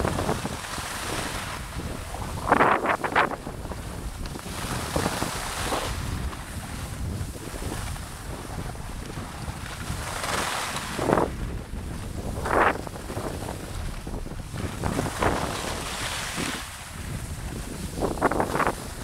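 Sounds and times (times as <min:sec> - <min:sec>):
ski edges scraping: 0:00.0 - 0:19.0
skis sliding on snow: 0:00.0 - 0:19.0
wind buffeting microphone: 0:00.0 - 0:19.0.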